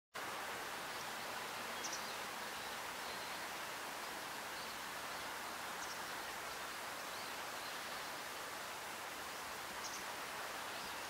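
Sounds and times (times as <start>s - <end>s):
outdoor background hiss: 0.2s - 11.0s.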